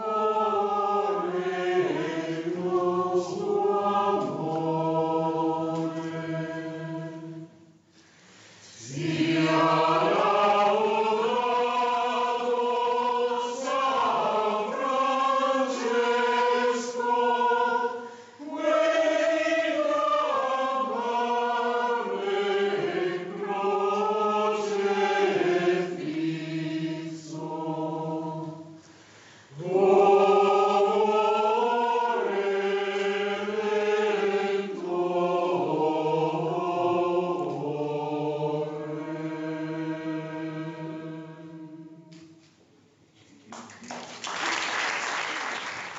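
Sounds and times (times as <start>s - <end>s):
mixed choir singing: 0.0s - 7.8s, 8.6s - 28.9s, 29.5s - 42.4s.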